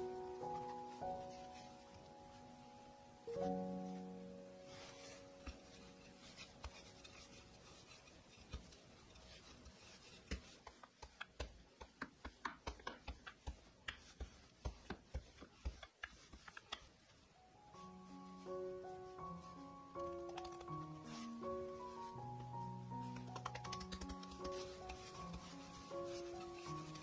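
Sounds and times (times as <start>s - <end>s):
hands rustling dough: 0.0s - 27.0s.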